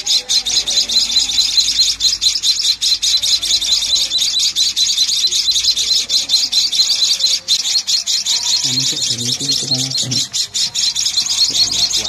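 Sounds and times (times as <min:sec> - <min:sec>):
nestling birds chirping: 0:00.0 - 0:12.0.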